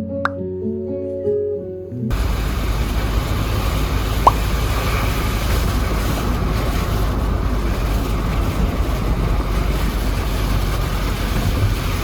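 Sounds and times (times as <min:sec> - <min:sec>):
car engine rumble: 0:02.1 - 0:12.0
tyre and wind hiss: 0:02.1 - 0:12.0.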